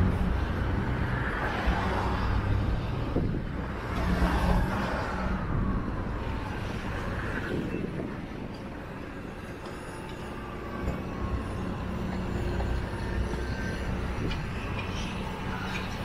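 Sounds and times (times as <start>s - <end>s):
vehicles driving by: 0.0s - 16.0s.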